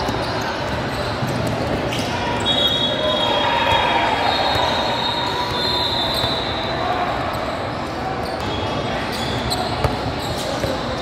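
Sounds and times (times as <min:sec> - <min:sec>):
sneakers squeaking on court: 0:00.0 - 0:06.7, 0:07.3 - 0:11.0
din of players and crowd: 0:00.0 - 0:11.0.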